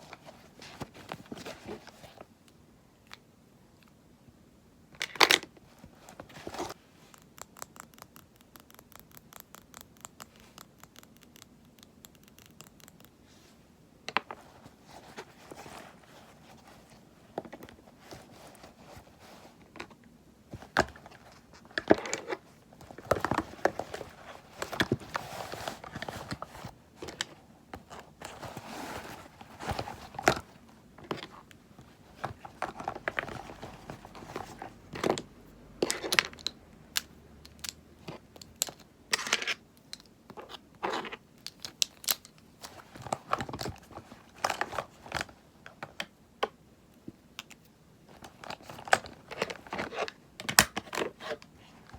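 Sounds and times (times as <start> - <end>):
crinkling and scraping: 0.0 - 2.3, 5.0 - 36.6, 37.6 - 46.1, 47.0 - 51.9.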